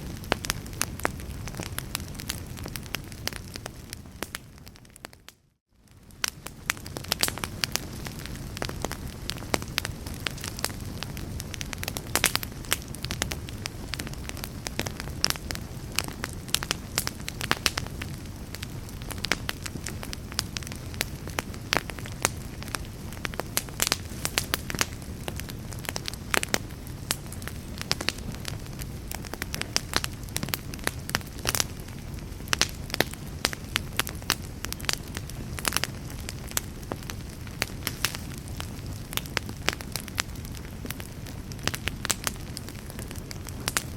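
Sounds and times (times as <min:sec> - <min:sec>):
logs crackling and popping: 0:00.0 - 0:43.9
low rumble of flames: 0:00.0 - 0:43.9.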